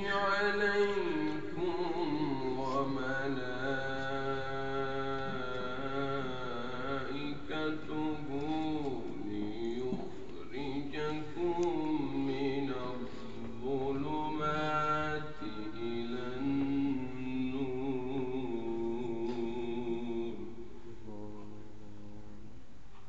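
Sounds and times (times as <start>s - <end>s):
man reciting melodically: 0.0s - 22.8s.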